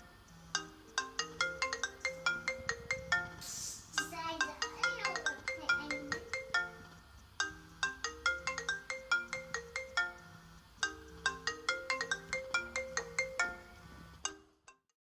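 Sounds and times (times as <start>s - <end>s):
phone ringtone melody: 0.0s - 14.5s.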